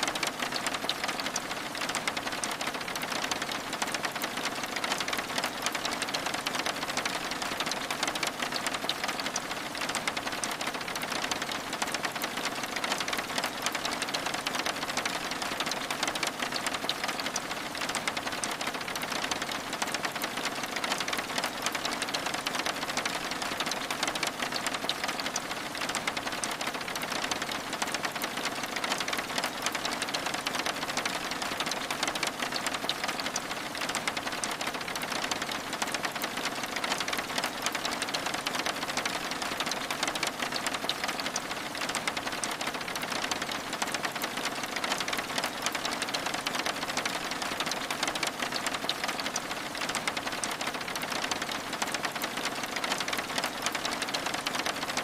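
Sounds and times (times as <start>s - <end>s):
rain ticking on a window: 0.0s - 55.0s.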